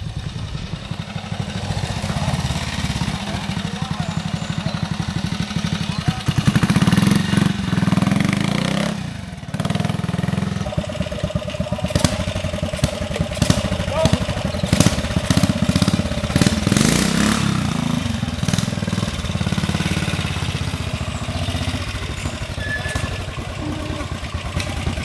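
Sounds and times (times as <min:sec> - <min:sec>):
motorcycle engine exhaust beat: 0:00.0 - 0:25.0.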